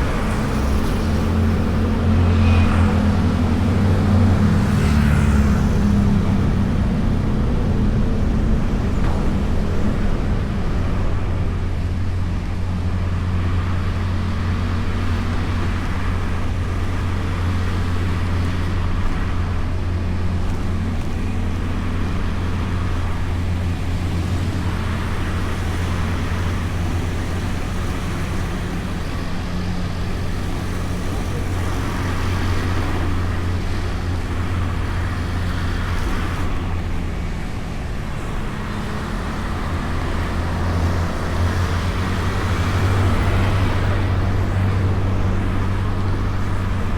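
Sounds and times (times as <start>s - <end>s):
surrounding traffic: 0.0s - 46.9s.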